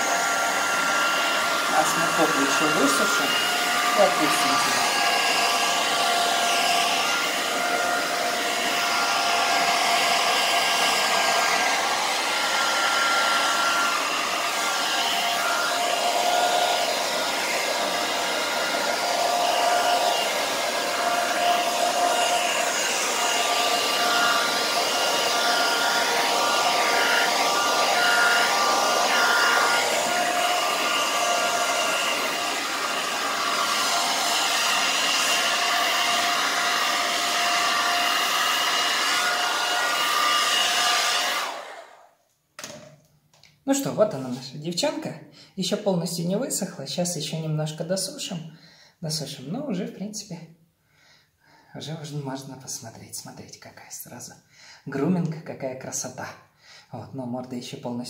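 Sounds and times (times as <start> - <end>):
hair dryer blowing: 0.0 - 42.9, 43.7 - 48.5, 51.6 - 53.5.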